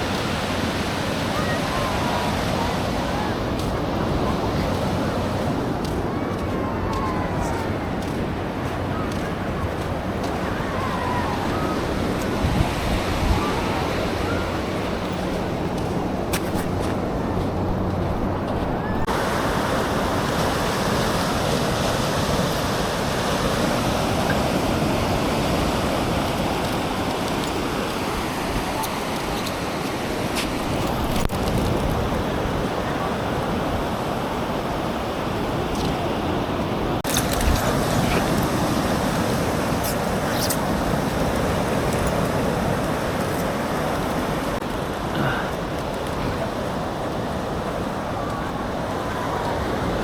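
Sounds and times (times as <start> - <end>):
surf breaking on beach: 0.0 - 50.0
wind buffeting microphone: 0.0 - 50.0.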